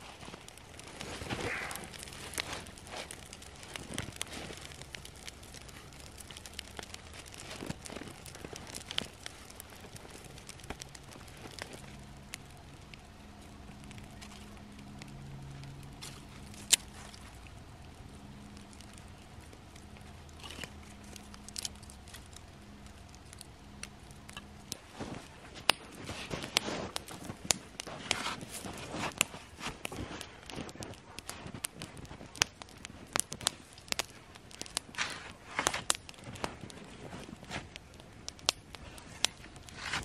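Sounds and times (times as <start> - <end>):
kindling fire crackling: 0.0 - 40.0
kindling sticks laid on fire: 0.0 - 40.0.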